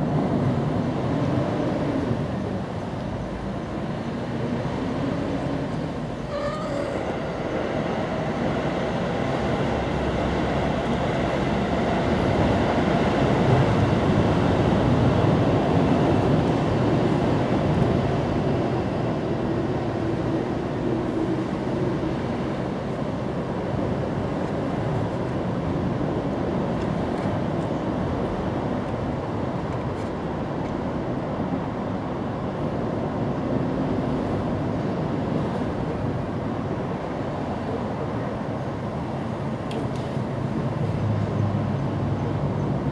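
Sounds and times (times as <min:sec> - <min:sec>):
steady rumbling background noise: 0:00.0 - 0:42.9.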